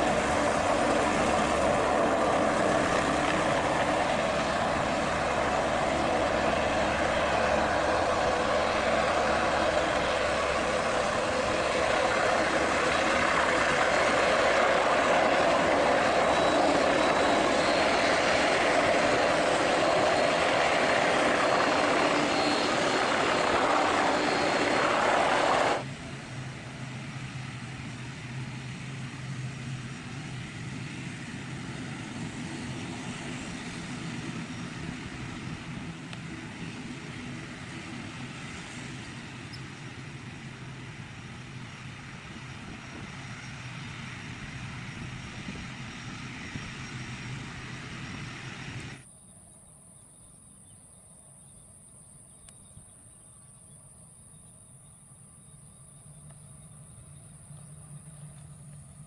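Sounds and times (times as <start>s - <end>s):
helicopter rotor noise: 0.0s - 49.0s
turboprop airliner drone: 0.0s - 49.1s, 52.6s - 59.0s.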